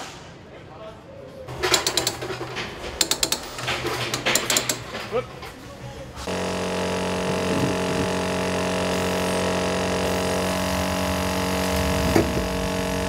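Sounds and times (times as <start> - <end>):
steady machine hum: 1.5 - 13.0.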